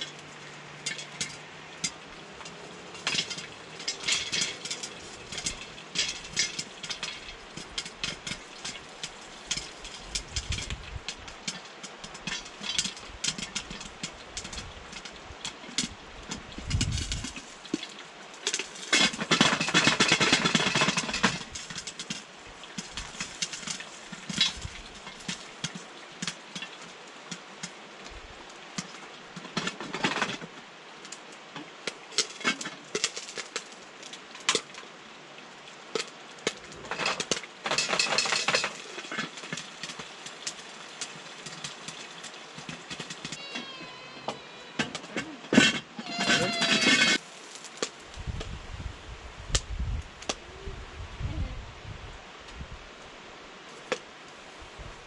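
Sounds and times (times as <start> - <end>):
crackling and popping: 0.0 - 34.8, 35.9 - 48.6, 49.5 - 50.5.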